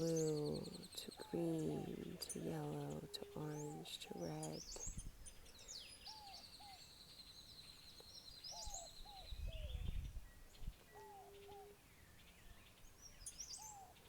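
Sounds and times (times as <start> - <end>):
low whistled bird notes: 0.0 - 14.0.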